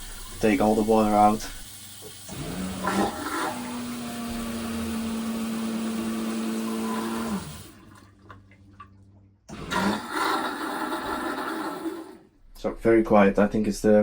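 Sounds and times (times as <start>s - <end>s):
toilet pump motor hum: 0.0s - 12.3s.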